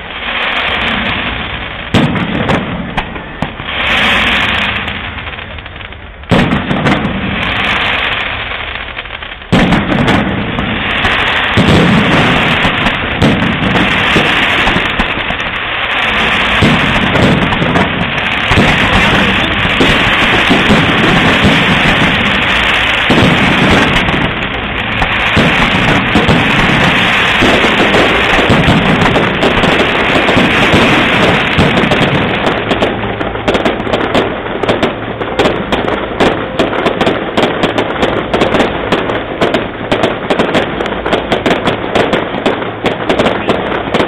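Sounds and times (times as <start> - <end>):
fireworks bangs: 0.0 - 44.0
fireworks crackling pops: 0.0 - 44.0.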